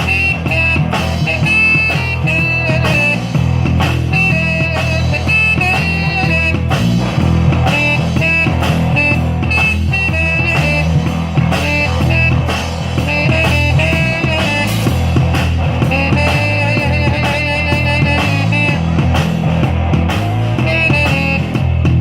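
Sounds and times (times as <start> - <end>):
band playing blues rock: 0.0 - 22.0.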